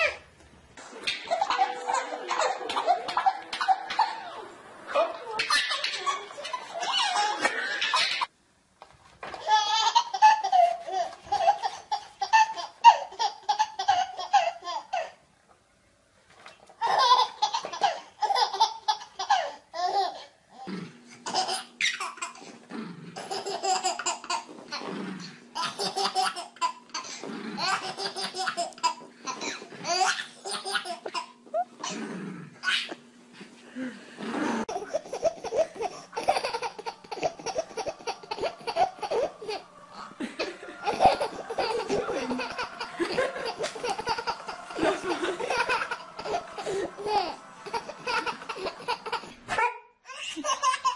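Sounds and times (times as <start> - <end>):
faint steady hum: 0.0 - 50.9
baby laughing: 1.1 - 4.4, 5.0 - 8.3, 9.4 - 15.2, 16.8 - 22.5, 23.2 - 24.9, 25.6 - 32.0, 34.6 - 50.9.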